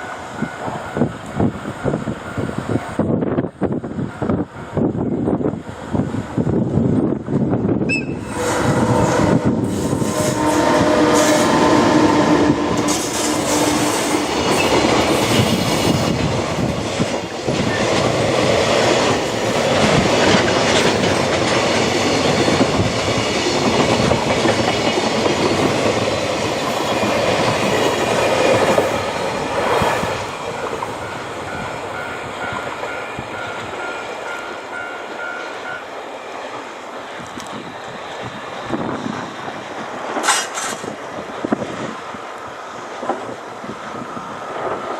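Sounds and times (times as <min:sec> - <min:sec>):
freight train passing: 0:00.0 - 0:44.9.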